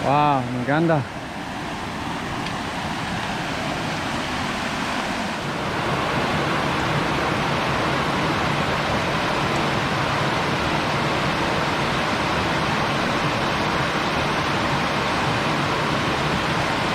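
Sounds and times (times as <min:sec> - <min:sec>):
river water flowing over rocks: 0:00.0 - 0:16.9.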